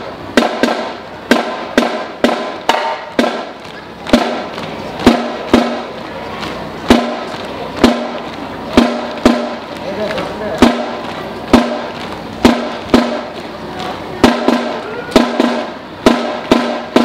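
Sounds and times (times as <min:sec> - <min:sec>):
marching band drum strikes: 0:00.0 - 0:17.0.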